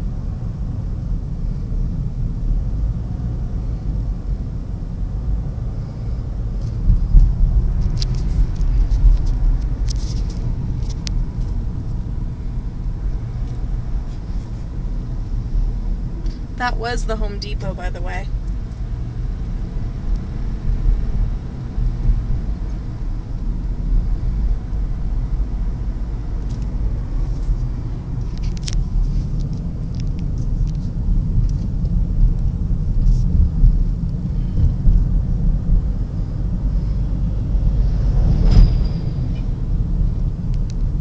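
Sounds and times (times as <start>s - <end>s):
car driving rumble: 0.0s - 41.0s.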